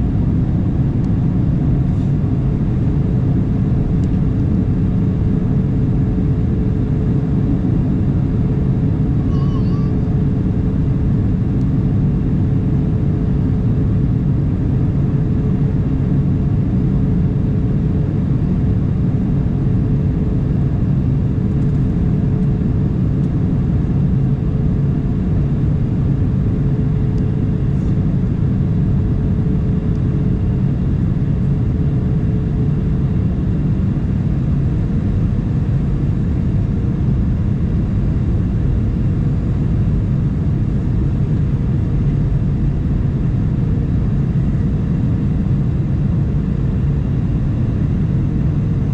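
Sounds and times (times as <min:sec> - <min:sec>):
airplane cabin low rumble: 0:00.0 - 0:48.9.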